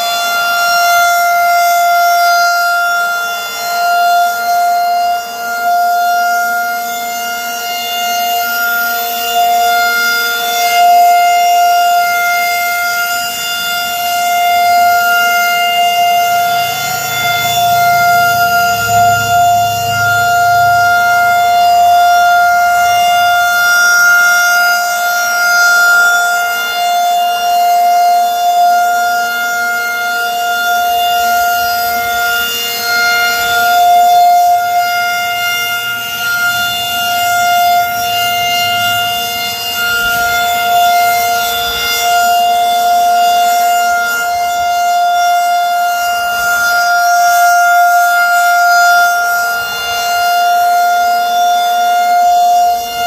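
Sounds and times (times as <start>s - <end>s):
rotating tornado siren: 0.0s - 53.0s.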